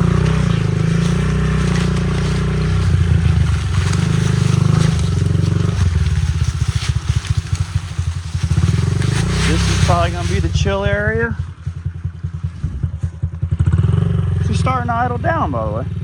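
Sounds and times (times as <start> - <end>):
small motorbike engine running: 0.0 - 16.0.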